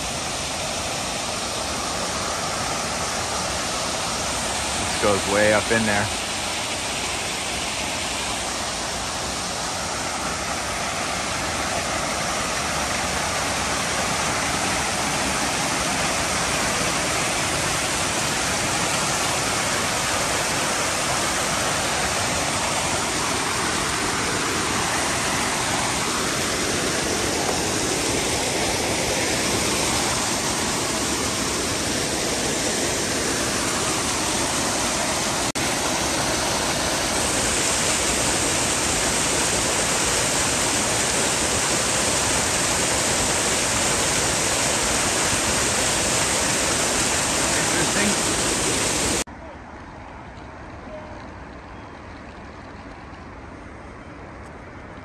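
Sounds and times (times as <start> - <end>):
running water rushing: 0.0 - 49.3.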